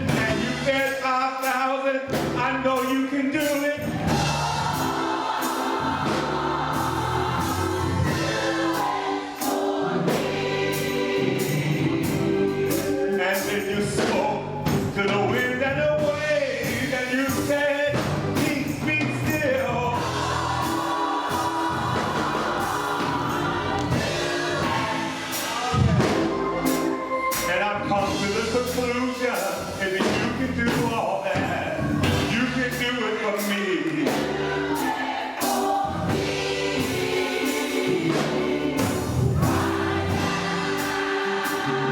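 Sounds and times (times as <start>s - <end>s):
band playing bass keyboard drums: 0.0s - 41.9s
gospel choir singing: 0.0s - 41.9s.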